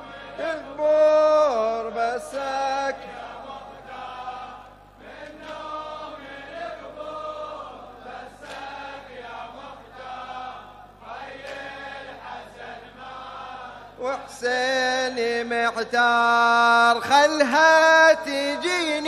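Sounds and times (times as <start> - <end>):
men and boys chanting in unison: 0.0 - 19.0.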